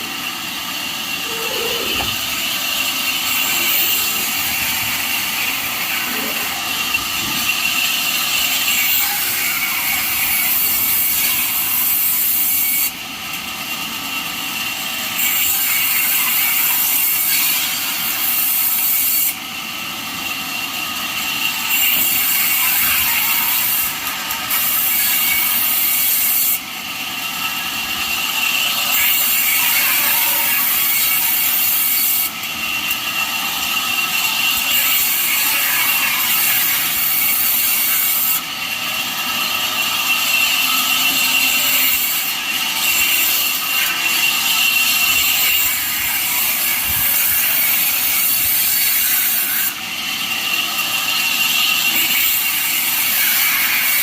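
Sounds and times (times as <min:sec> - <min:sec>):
band saw cutting wood: 0:00.0 - 0:13.4, 0:14.2 - 0:19.5, 0:20.6 - 0:54.0.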